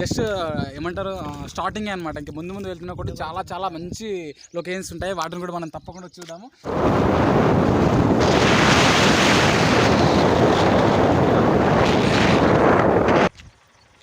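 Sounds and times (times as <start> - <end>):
wind buffeting microphone: 0.0 - 5.2, 6.6 - 13.6.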